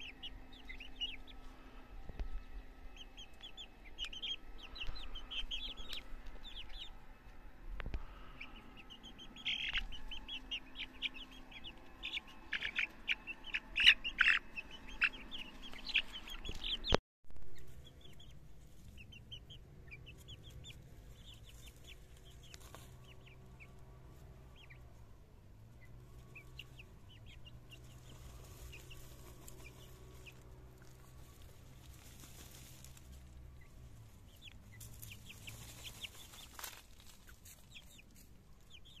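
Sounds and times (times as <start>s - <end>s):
chickens scratching dry ground: 0.0s - 7.1s, 9.4s - 25.1s, 25.7s - 39.0s
chicks peeping: 0.0s - 39.0s
steady low hum: 0.0s - 39.0s.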